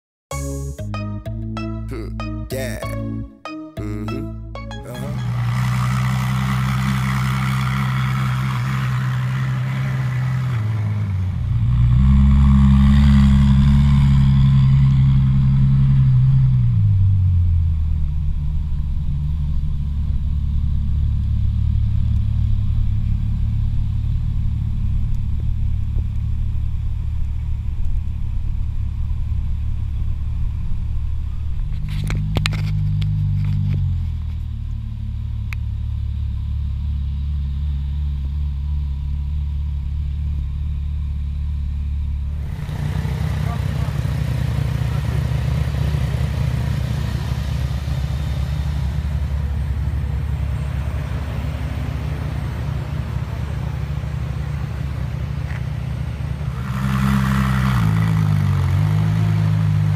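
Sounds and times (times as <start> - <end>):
car engine revving: 5.1 - 59.9.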